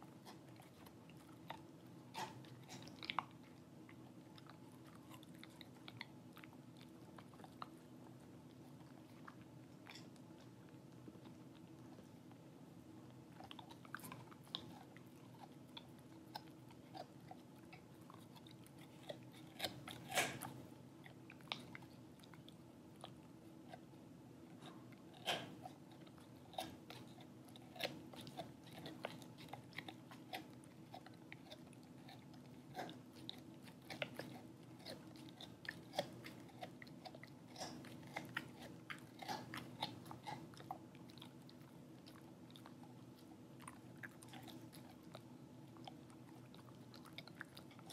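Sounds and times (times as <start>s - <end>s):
dog chewing rawhide: 0.0s - 47.9s.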